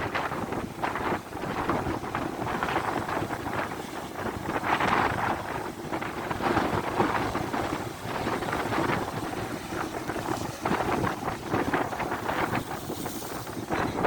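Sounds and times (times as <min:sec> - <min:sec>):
sea surf washing in: 0:00.0 - 0:14.0
wind buffeting microphone: 0:00.0 - 0:14.0.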